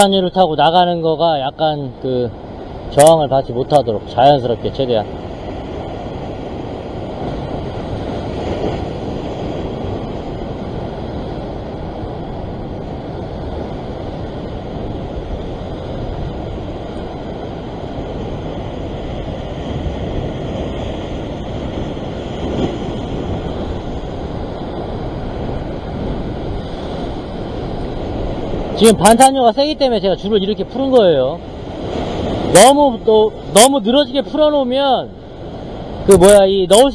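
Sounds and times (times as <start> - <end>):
surf washing against rocks: 0.0 - 36.9
wind on microphone: 2.3 - 36.9.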